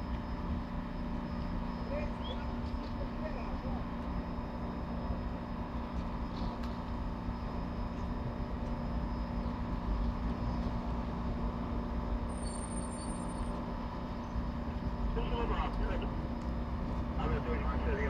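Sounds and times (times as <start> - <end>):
train idling rumble and hum: 0.0 - 18.0.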